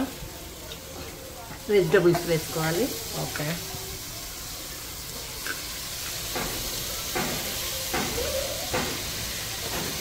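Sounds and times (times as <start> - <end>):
steady sizzling hiss: 0.0 - 10.0.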